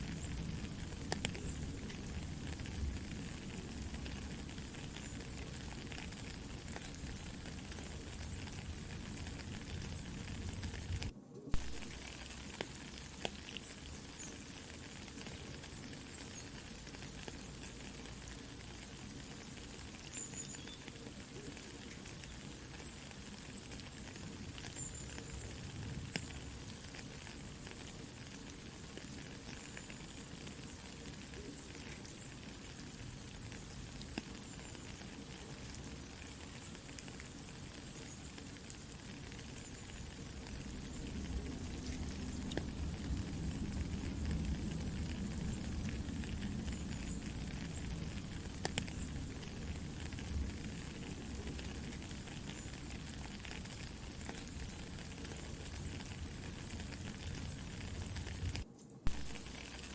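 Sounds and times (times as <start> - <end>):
campfire crackling and popping: 0.0 - 59.9
rain hiss: 0.0 - 59.9.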